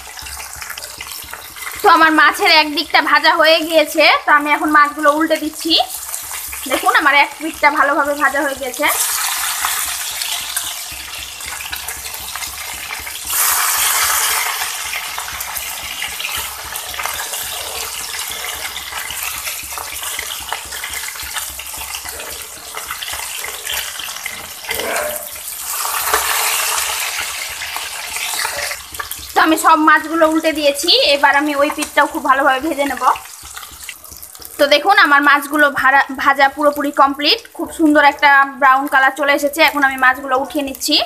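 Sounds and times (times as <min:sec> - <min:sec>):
fish sizzling in hot oil: 0:00.0 - 0:41.0.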